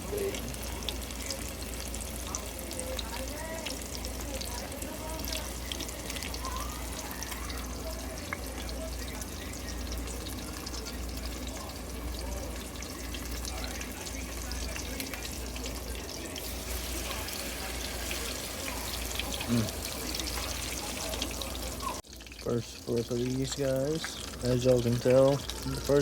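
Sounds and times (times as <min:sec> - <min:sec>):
fish frying in hot grease: 0:00.0 - 0:26.0.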